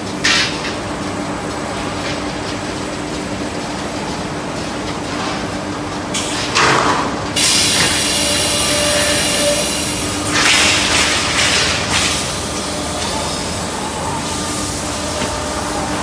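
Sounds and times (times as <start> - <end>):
machine hum with steady tone: 0.0 - 16.0.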